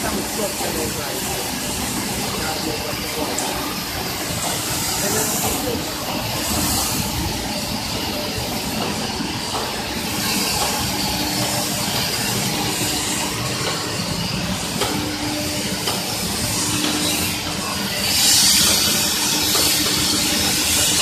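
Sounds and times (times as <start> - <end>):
machinery mechanical hum: 0.0 - 21.0.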